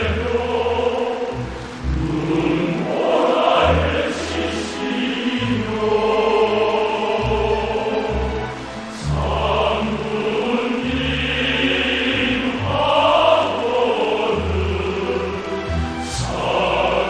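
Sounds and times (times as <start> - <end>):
choir singing long notes: 0.0 - 17.0
orchestral accompaniment: 0.0 - 17.0.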